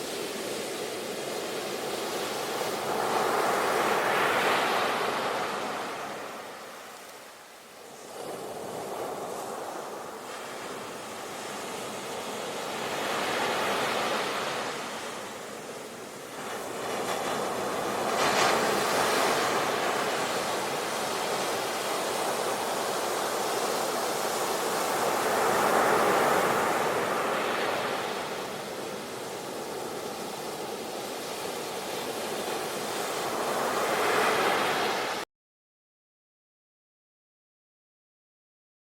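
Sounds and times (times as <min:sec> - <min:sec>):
sea waves washing onto shore: 0:00.0 - 0:35.2
waves crashing: 0:00.0 - 0:35.2.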